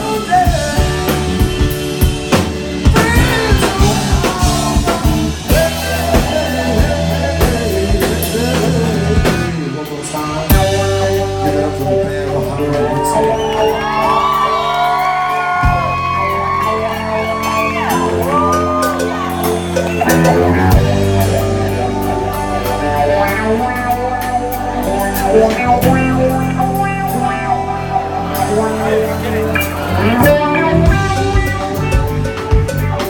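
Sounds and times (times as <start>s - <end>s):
live rock band playing: 0.0s - 33.0s
man singing lead vocals: 0.0s - 33.0s.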